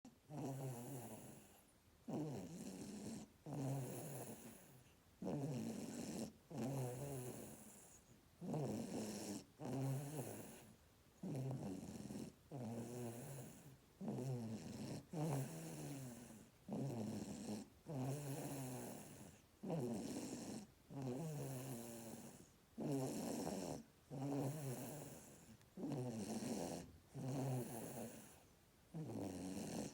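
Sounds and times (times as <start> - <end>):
baby snoring: 0.3 - 1.5, 2.1 - 7.8, 8.4 - 10.6, 11.2 - 29.9.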